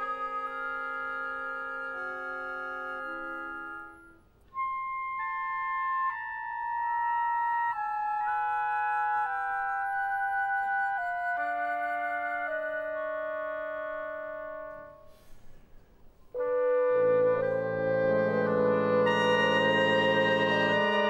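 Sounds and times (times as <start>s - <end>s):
woodwinds and brass playing chords: 0.0s - 15.3s, 16.3s - 21.0s.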